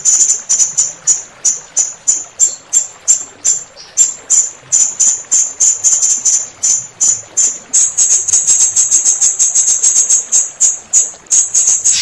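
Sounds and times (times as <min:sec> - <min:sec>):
flowing water hiss: 0:00.0 - 0:12.0.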